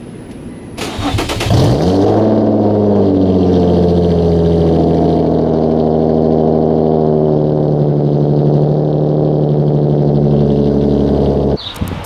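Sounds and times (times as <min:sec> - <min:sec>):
car exhaust running steadily: 0:01.8 - 0:12.0.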